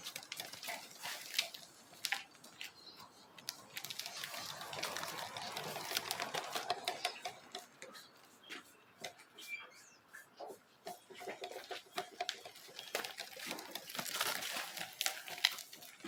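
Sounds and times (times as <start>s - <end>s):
rolling rustle: 0.0s - 8.0s, 10.9s - 16.0s.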